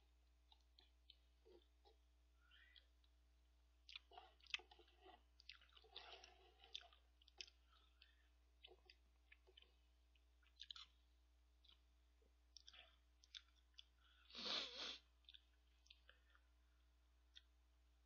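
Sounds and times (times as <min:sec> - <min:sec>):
soft chewing: 0:00.0 - 0:18.0.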